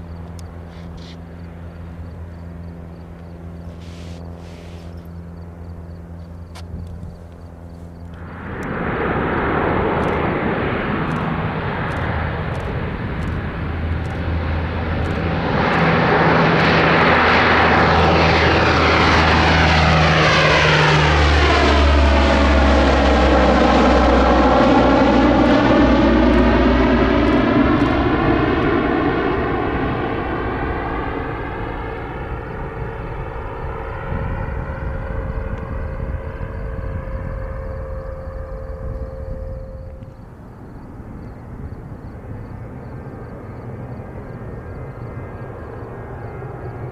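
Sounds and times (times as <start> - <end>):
propeller aircraft passing overhead: 0.0 - 46.9.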